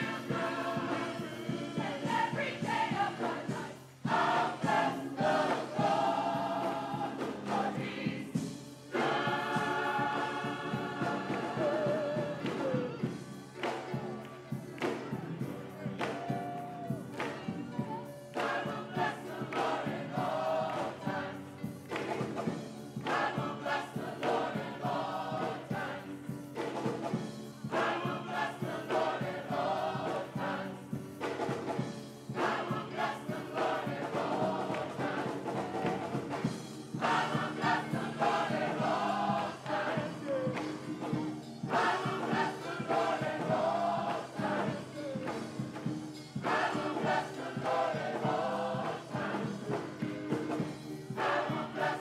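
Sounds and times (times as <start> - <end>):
gospel choir singing: 0.0 - 52.0
instrumental accompaniment: 0.0 - 52.0.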